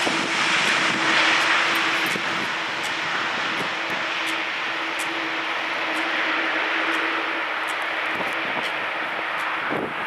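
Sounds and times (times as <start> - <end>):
jet engines roaring: 0.0 - 10.0
steady low tone: 0.0 - 10.0.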